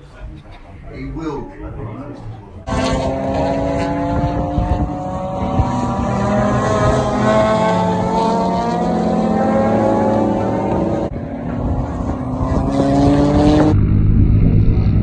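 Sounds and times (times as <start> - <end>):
race car engines accelerating: 2.6 - 15.0.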